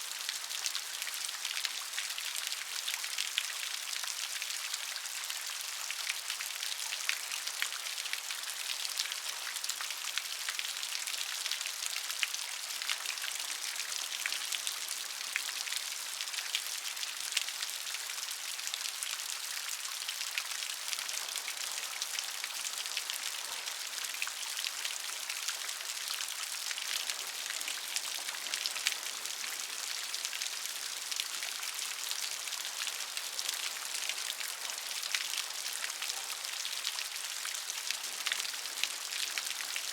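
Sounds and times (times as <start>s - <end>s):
rain drops ticking on a surface: 0.0s - 39.9s.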